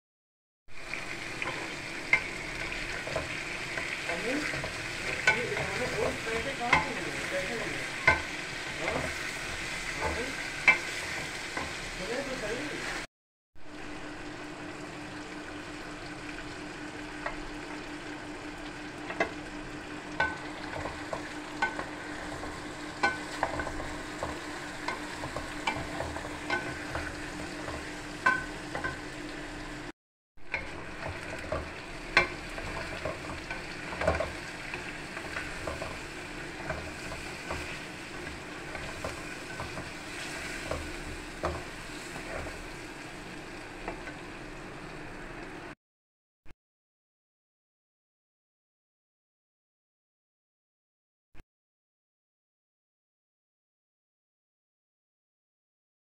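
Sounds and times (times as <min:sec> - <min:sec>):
chicken sizzling in hot oil: 0:00.7 - 0:45.8.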